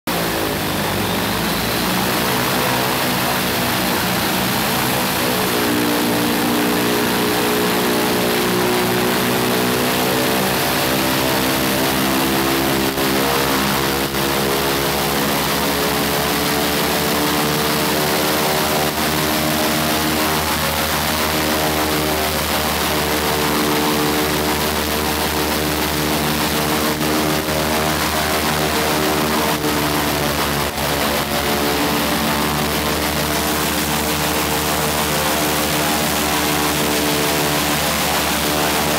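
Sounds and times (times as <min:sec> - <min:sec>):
radial aircraft engine running: 0:00.1 - 0:38.9.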